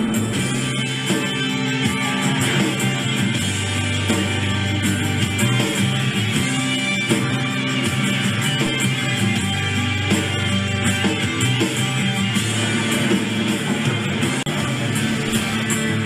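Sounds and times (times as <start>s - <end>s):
bass beat: 0.0s - 16.0s
guitar-led background music: 0.0s - 16.0s.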